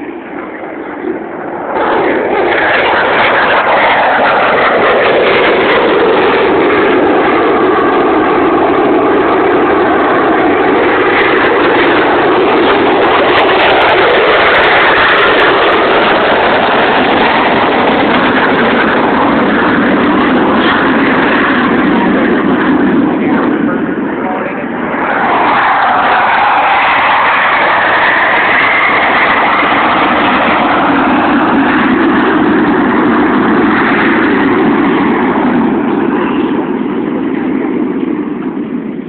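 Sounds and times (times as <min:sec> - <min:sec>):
jet aircraft passing low: 0:00.0 - 0:39.0.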